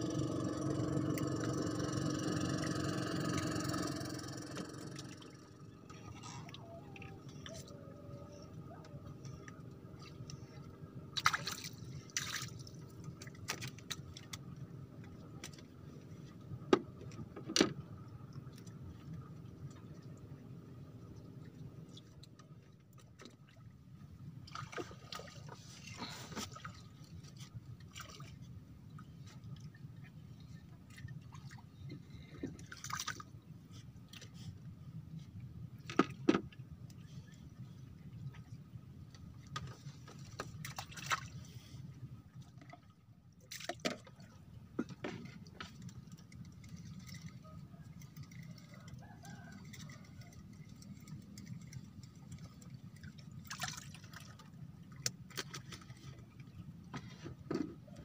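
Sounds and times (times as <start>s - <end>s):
water lapping against a raft: 0.0s - 18.0s, 18.6s - 58.0s.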